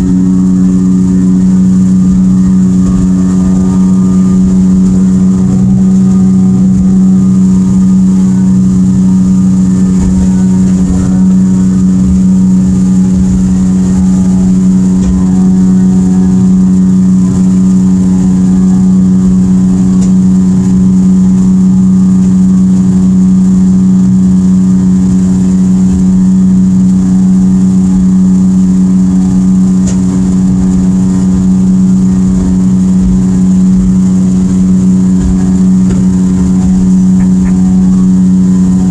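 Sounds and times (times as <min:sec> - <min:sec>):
outboard motor droning: 0:00.0 - 0:38.9
wind and water rushing: 0:00.0 - 0:38.9.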